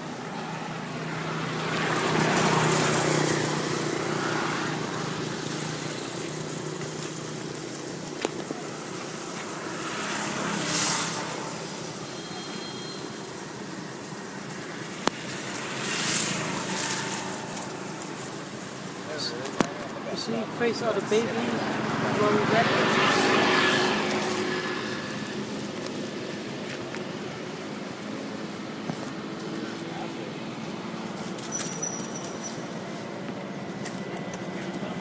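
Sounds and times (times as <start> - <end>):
vehicle engine passing: 0.0 - 35.0.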